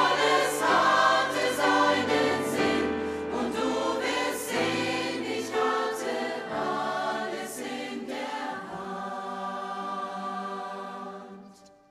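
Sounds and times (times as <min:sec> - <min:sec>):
choir singing: 0:00.0 - 0:11.9.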